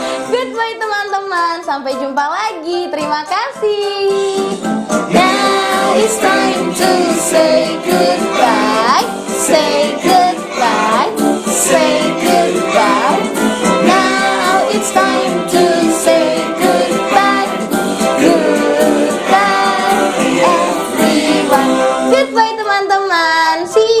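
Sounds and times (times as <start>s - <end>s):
children's song with instruments: 0.0s - 24.0s.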